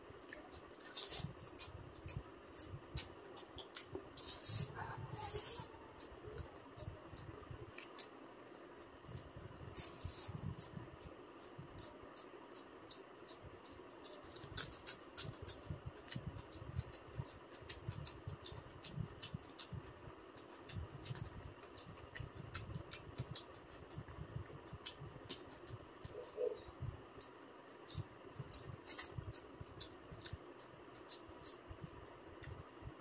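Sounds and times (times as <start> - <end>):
faint room hum: 0.0 - 33.0
person chewing with mouth smacks: 0.2 - 8.1, 11.4 - 31.6.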